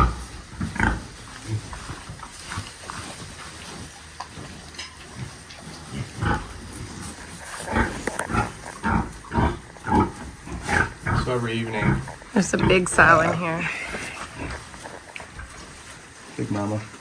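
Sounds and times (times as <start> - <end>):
pigs grunting: 0.0 - 17.0.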